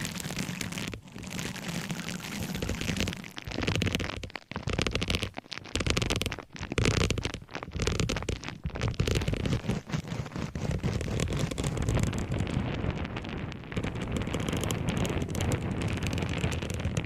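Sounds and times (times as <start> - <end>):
object crackling and scratching: 0.0 - 17.0.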